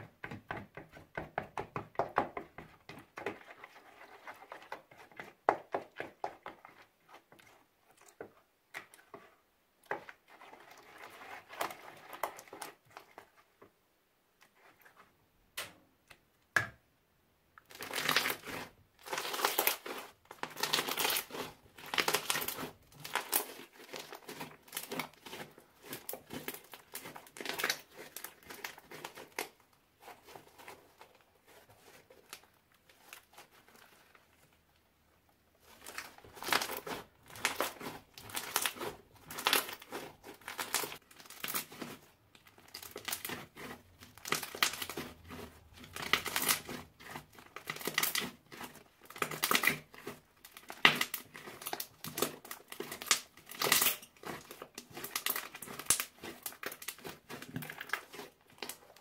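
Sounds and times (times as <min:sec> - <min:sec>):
slime squishing: 0:00.2 - 0:13.6, 0:17.6 - 0:34.7, 0:35.5 - 0:59.0.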